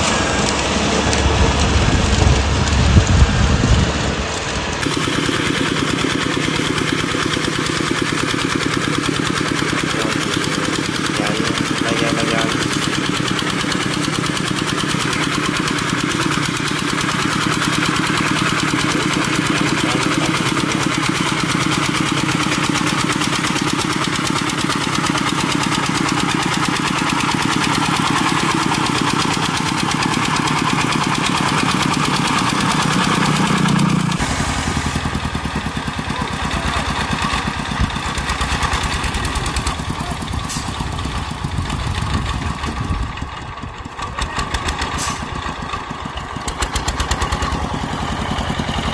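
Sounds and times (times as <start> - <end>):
diesel tiller engine running: 0.0 - 48.9
rough uneven engine running: 0.0 - 48.9.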